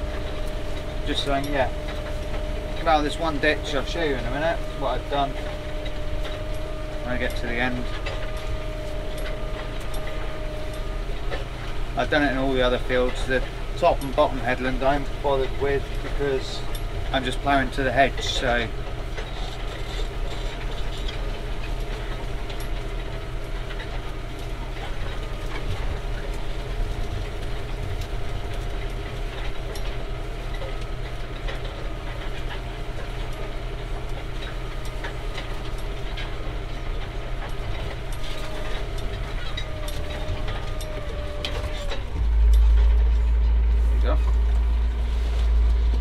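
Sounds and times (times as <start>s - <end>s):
clicks and rattles: 0.0s - 46.0s
low rumble: 0.0s - 46.0s
tractor engine running under load: 0.0s - 46.0s.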